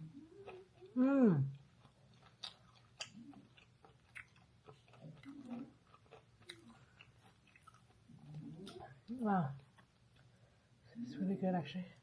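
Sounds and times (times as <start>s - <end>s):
faint chewing with mouth clicks: 0.0s - 11.0s.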